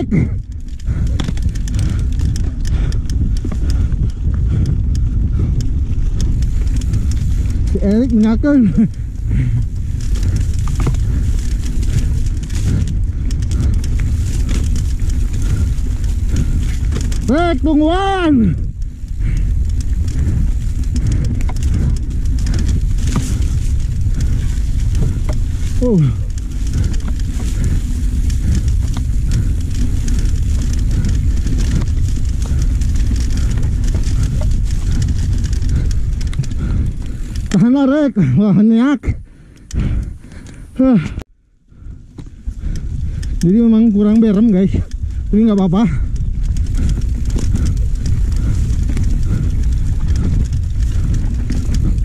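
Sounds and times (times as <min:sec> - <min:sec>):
bike rattles and clicks: 0:00.0 - 0:52.0
wind rumble on microphone: 0:00.0 - 0:52.0.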